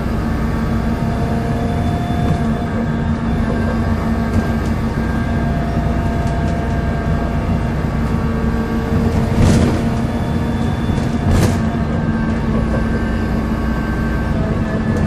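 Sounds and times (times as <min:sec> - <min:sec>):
bus engine with low groan: 0:00.0 - 0:15.0.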